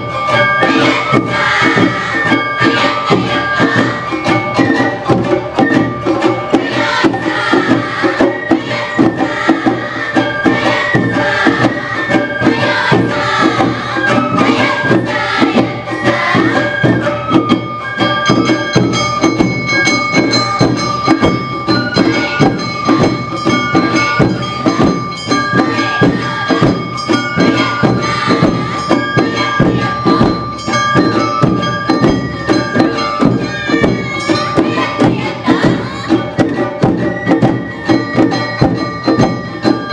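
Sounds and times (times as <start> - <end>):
fast drum beat: 0.0 - 17.1, 18.2 - 39.9
bamboo flutes melody: 0.0 - 39.9
clanging bell: 0.0 - 39.9.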